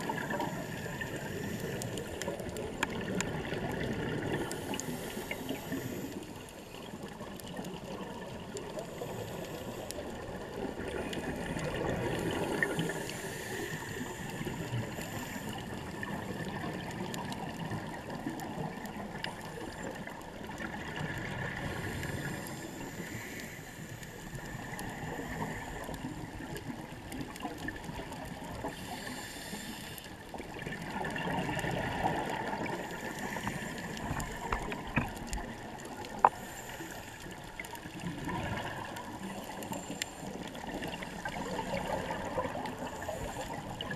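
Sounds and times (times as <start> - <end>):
underwater hiss: 0.0 - 17.9, 18.5 - 43.9
scattered crackles: 0.0 - 43.9.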